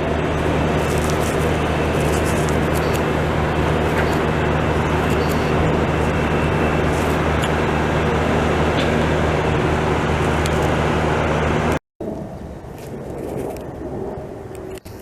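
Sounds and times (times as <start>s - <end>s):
loud traffic roar: 0.0s - 15.0s
low engine drone: 0.0s - 15.0s.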